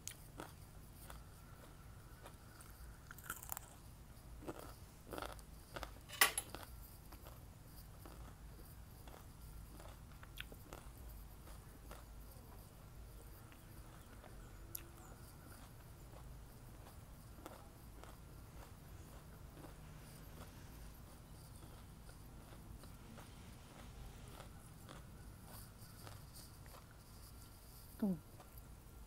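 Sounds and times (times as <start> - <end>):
crunching and chewing cucumber: 0.0 - 29.0
steady low hum: 0.0 - 29.0.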